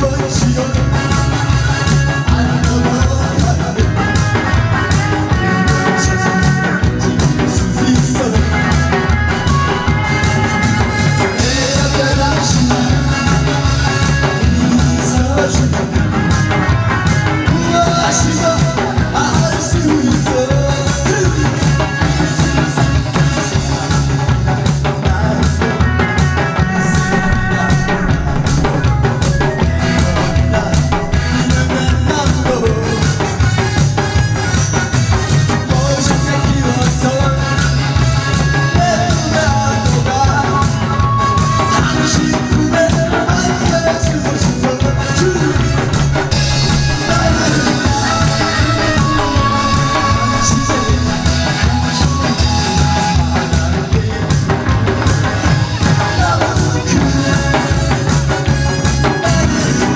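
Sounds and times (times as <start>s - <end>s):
amplified song with drum beat: 0.0s - 59.9s.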